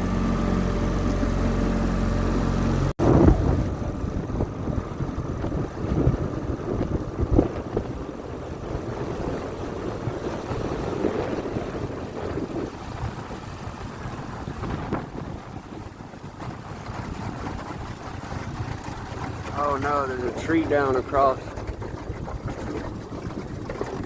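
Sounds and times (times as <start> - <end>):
outboard motor running: 0.0 - 24.0
water noise: 0.0 - 24.0
wind rumble on microphone: 0.0 - 24.0.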